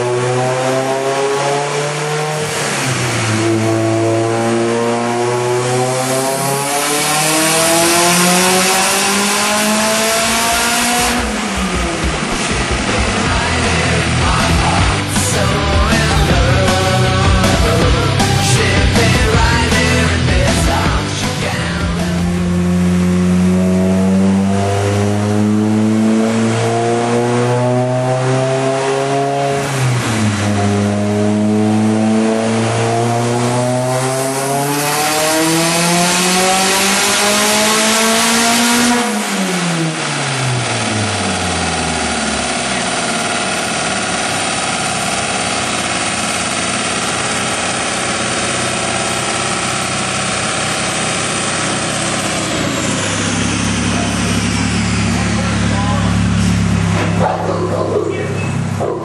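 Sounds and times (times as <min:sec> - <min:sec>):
car engine revving on dyno: 0:00.0 - 0:59.0.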